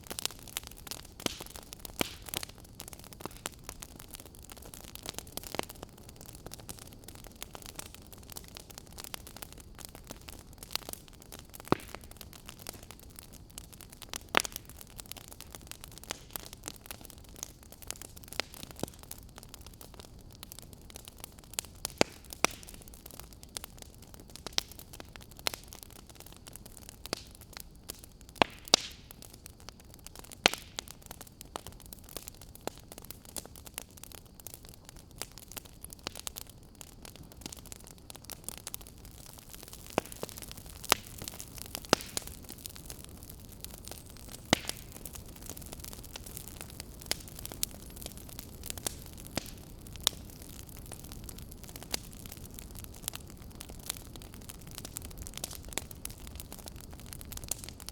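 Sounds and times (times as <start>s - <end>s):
fire popping sharply: 0.0s - 26.0s, 26.7s - 57.9s
fire crackling and hissing: 0.0s - 57.9s.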